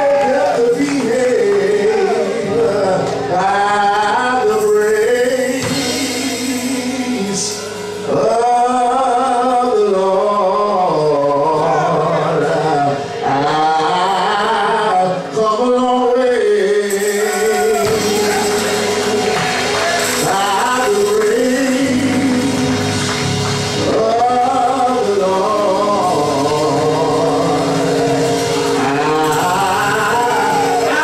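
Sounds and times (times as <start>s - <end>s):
keyboard accompaniment: 0.0s - 31.0s
man singing gospel: 0.0s - 31.0s.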